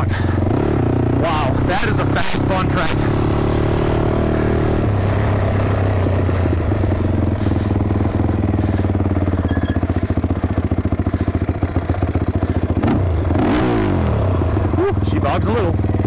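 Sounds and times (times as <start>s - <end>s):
atv engine with uneven exhaust beat: 0.0s - 16.0s.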